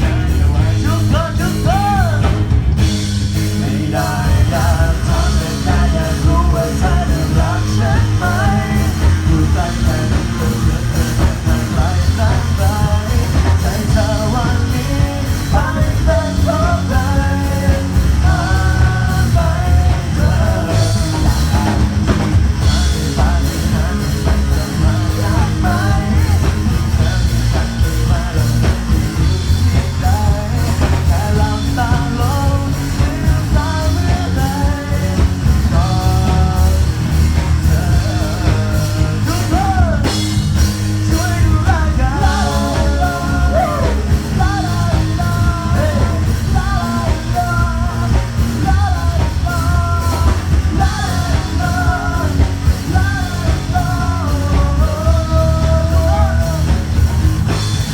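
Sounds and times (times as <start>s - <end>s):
person singing: 0.0s - 57.9s
rock band playing: 0.0s - 57.9s.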